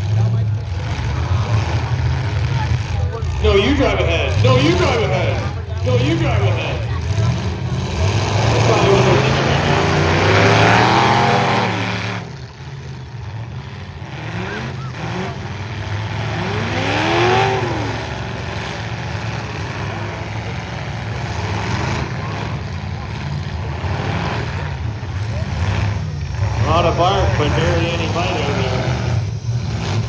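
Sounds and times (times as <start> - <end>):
truck engine revving: 0.0 - 30.0
truck engines droning: 0.0 - 30.0.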